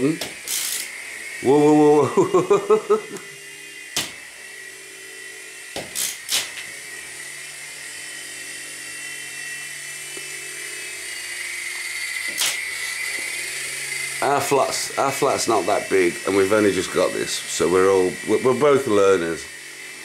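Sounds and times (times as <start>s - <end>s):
toy helicopter motors whining: 0.0s - 20.0s.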